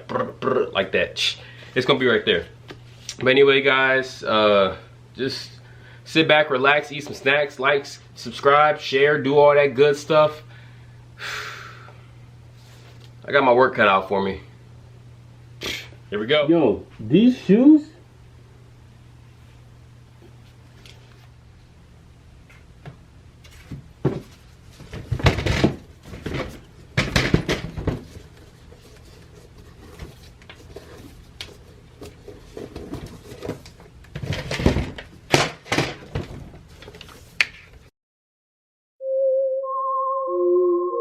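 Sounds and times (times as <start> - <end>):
low steady hum: 0.0 - 37.7.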